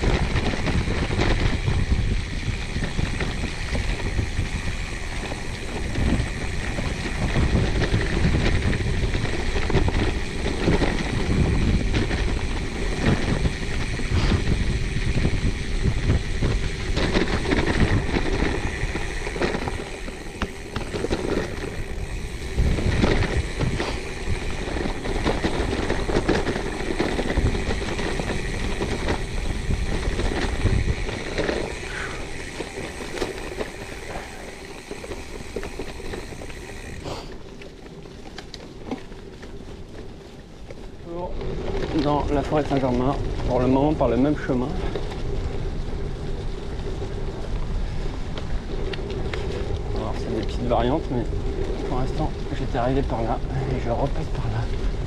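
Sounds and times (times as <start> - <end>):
bike rattling over bumps: 0.0 - 55.0
bike tyres on gravel: 0.0 - 55.0
wind rumble on microphone: 0.0 - 55.0.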